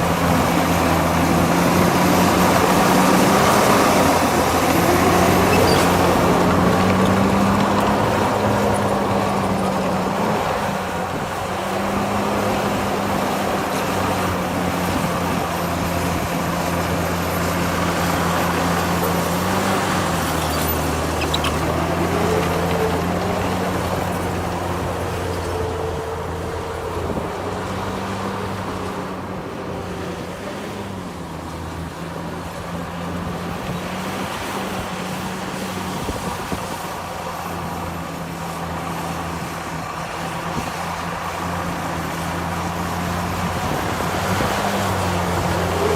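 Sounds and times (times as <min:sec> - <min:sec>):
heavy diesel engine under load: 0:00.0 - 0:45.9.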